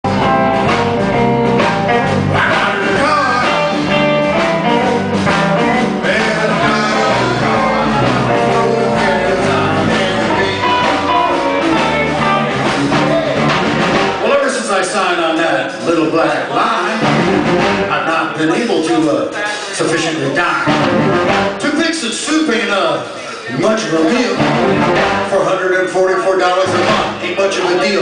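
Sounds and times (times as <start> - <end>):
blues rock band playing: 0.0 - 28.0.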